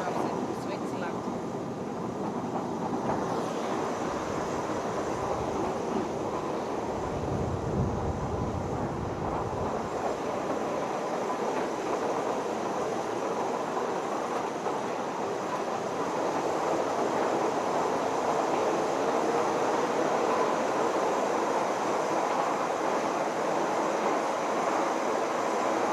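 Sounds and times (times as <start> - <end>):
train rumbling and rattling: 0.0 - 25.9.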